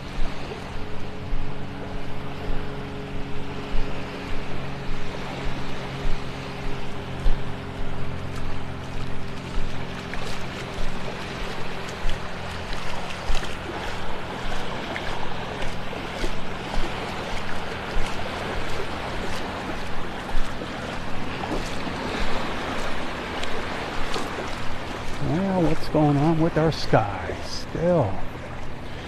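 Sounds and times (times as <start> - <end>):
feet splashing through water: 0.0 - 29.0
waves washing: 0.0 - 29.0
wind: 0.0 - 29.0.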